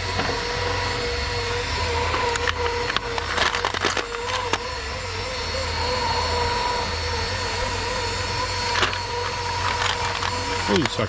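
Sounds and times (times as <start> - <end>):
cordless drill whining: 0.0 - 11.0.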